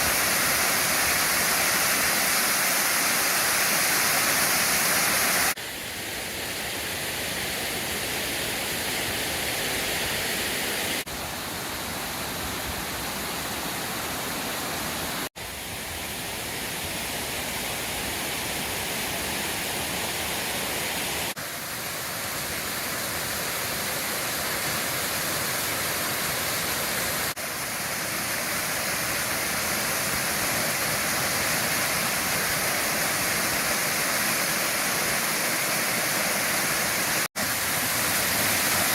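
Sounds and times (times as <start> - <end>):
waterfall rushing water: 0.0 - 38.9.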